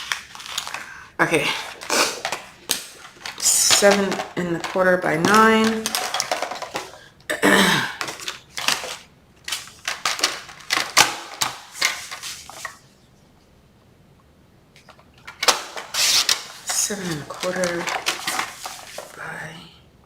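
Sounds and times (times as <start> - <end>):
paper rustling: 0.0 - 7.0, 8.0 - 13.0, 14.8 - 19.4.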